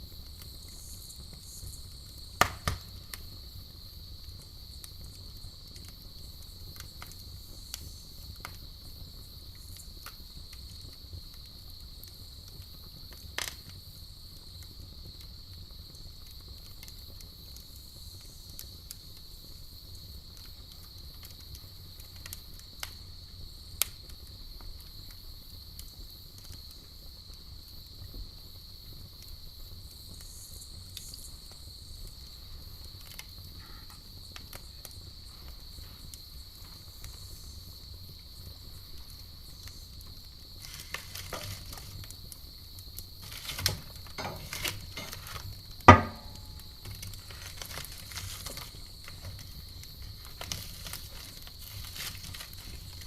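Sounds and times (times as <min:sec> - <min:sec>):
campfire crackling and popping: 0:00.0 - 0:53.0
crickets chirring: 0:00.0 - 0:53.0.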